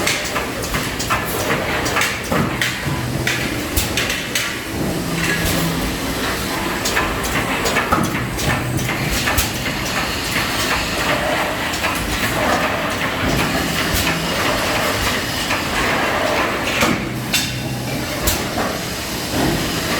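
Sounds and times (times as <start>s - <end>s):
machine hum: 0.3s - 19.9s.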